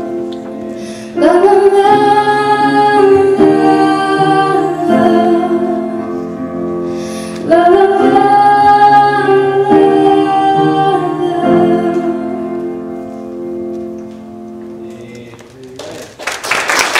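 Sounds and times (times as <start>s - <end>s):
piano accompaniment: 0.0s - 16.9s.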